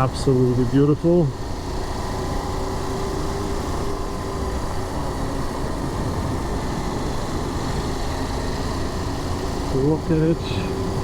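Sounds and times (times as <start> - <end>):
motorcycle engine drone: 0.0 - 11.0.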